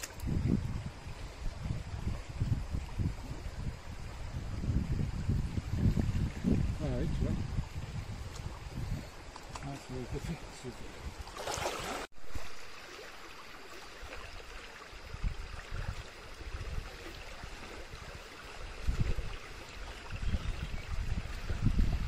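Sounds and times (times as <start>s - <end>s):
stream running over stones: 0.0s - 22.0s.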